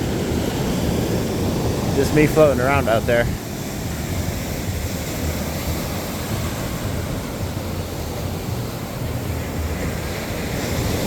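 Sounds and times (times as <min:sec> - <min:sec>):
surf hissing: 0:00.0 - 0:11.0
wind on microphone: 0:00.0 - 0:11.0.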